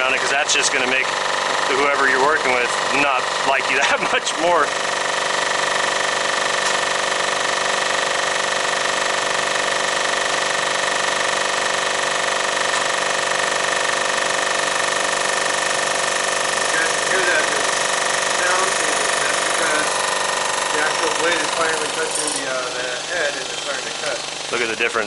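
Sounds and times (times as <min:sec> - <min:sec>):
resurfacing machine high whine: 0:00.0 - 0:25.0.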